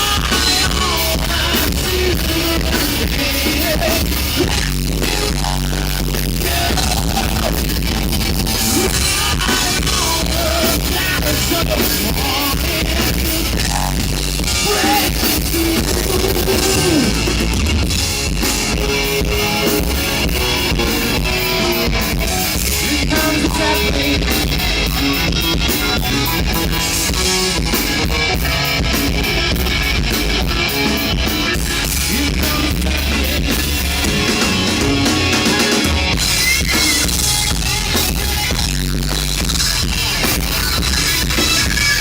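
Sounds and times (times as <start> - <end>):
bass line: 0.0 - 42.0
drum kit: 0.0 - 42.0
guitar: 0.0 - 42.0.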